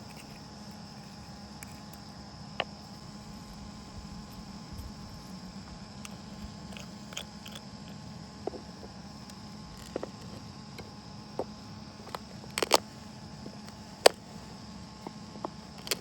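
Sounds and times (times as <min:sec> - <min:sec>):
faint background hum: 0:00.0 - 0:16.0.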